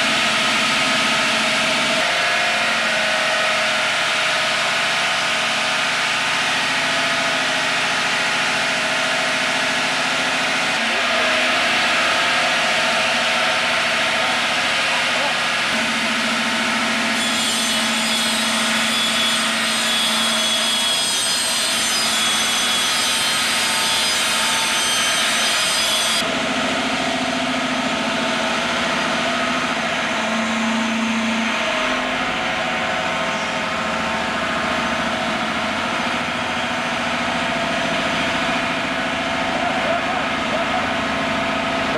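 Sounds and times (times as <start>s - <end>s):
low mechanical hum: 0.0s - 41.9s
stone-cutting saw whining: 0.0s - 41.9s.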